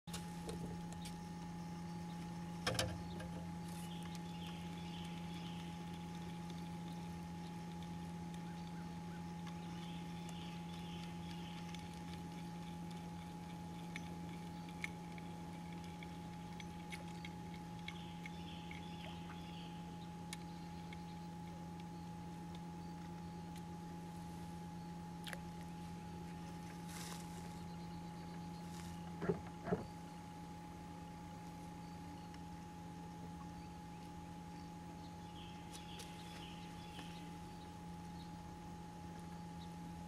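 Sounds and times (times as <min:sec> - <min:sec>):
electric trolling motor hum: 0:00.1 - 0:40.0.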